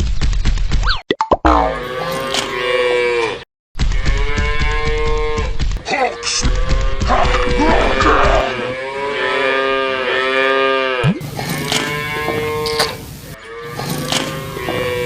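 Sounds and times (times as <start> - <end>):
cows mooing: 1.6 - 3.4, 4.0 - 15.0.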